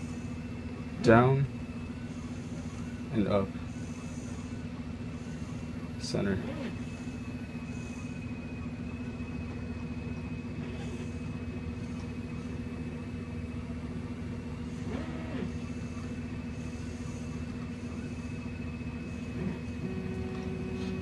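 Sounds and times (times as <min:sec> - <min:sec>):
motor whine: 0:00.0 - 0:21.0
steady low hum: 0:00.0 - 0:21.0.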